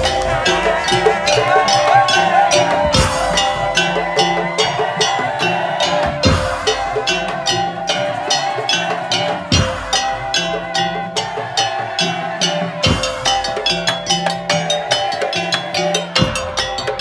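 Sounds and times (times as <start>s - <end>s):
held melody: 0.0s - 17.0s
wooden and bamboo percussion: 0.0s - 17.0s.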